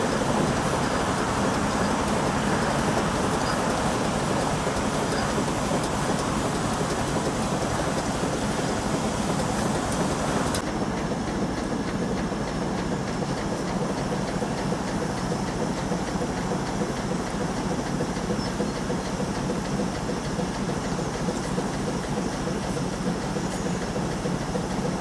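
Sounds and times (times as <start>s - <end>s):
steam engine beating: 0.0s - 25.0s.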